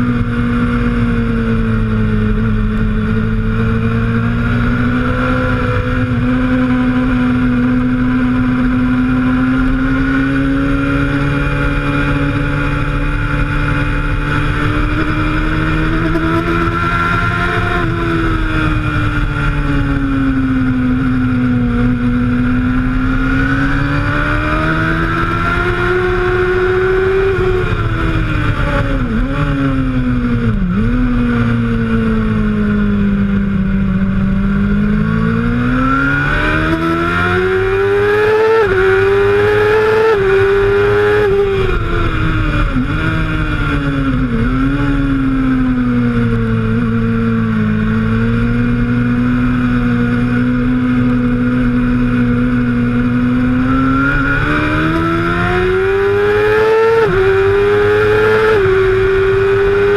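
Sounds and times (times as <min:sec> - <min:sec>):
motorcycle engine racing: 0:00.0 - 0:59.9.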